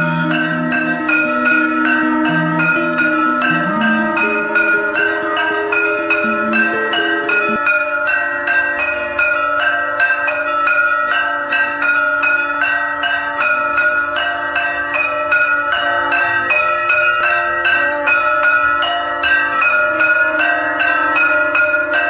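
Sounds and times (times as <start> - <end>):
temple bells ringing: 0.0 - 22.0.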